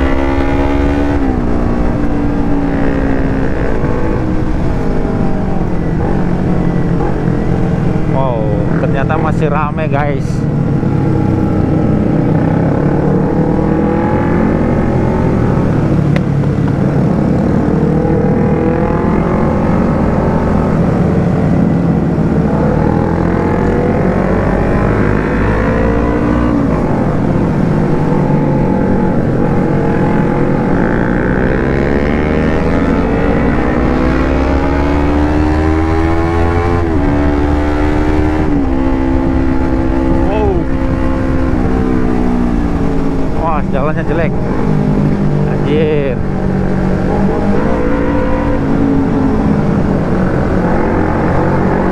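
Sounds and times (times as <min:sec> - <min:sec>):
motorcycle engine accelerating: 0:00.0 - 0:51.9
wind rush: 0:00.0 - 0:51.9.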